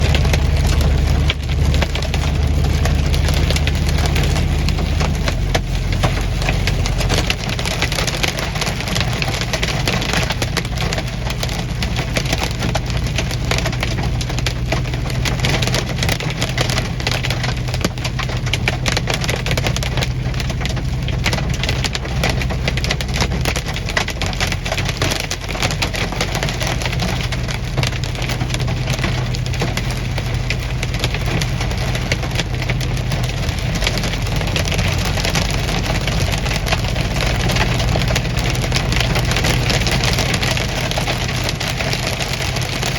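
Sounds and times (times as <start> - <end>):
hailstones hitting a vehicle: 0.0 - 42.9
vehicle engine running: 0.0 - 42.9.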